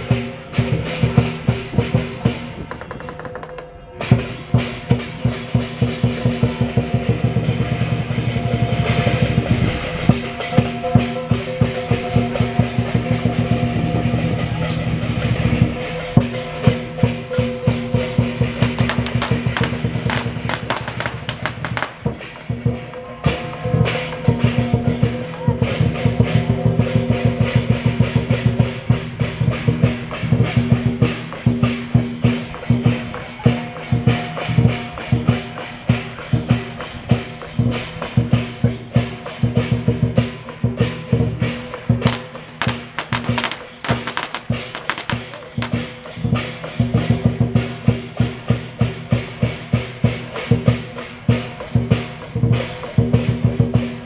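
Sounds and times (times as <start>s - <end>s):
big drum beating fast: 0.0s - 2.8s, 4.0s - 54.0s
crashing cymbals: 4.0s - 54.0s.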